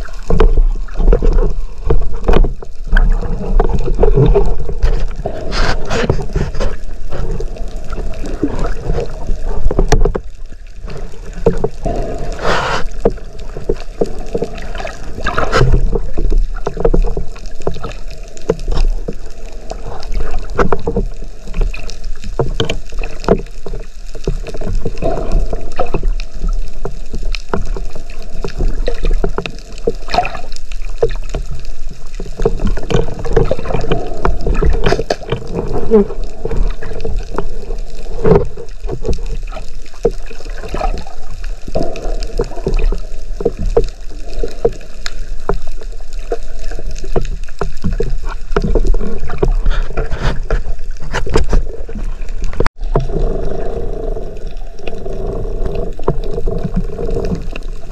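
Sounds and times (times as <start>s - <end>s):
crackling clicks: 0.0s - 57.9s
underwater rush of water: 0.0s - 57.9s.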